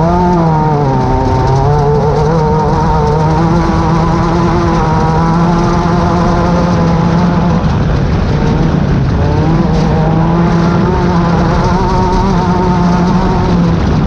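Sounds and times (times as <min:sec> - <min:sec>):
race car engine running hard: 0:00.0 - 0:14.0.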